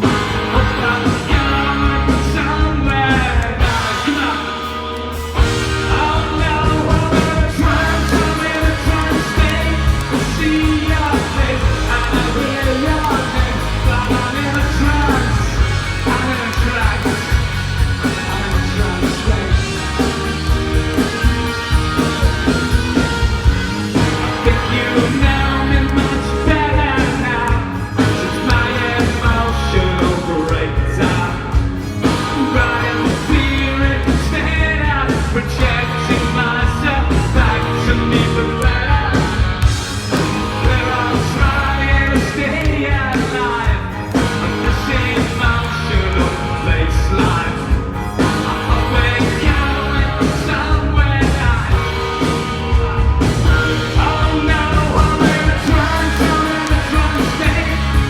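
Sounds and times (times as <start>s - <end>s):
man singing: 0.0s - 20.2s, 23.9s - 58.0s
live rock band playing: 0.0s - 58.0s.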